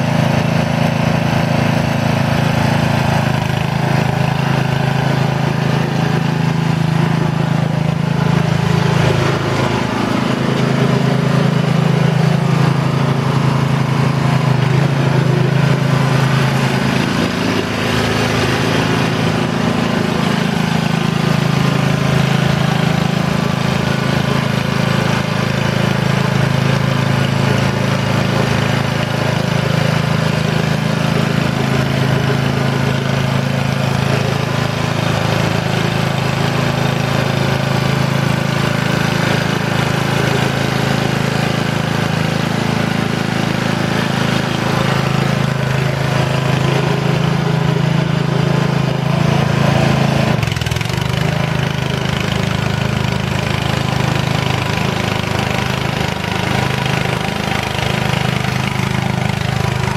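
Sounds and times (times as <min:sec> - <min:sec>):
small petrol engine running: 0:00.0 - 0:59.9.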